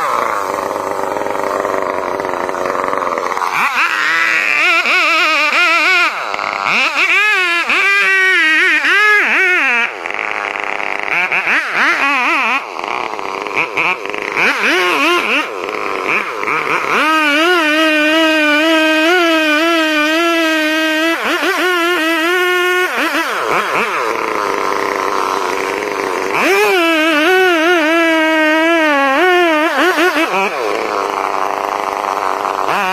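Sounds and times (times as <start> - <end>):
chainsaw cutting wood: 0.0 - 32.9.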